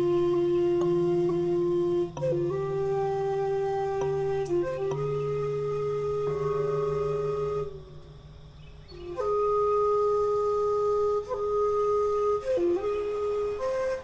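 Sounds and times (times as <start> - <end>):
flute playing long notes: 0.0 - 8.2, 8.9 - 14.0.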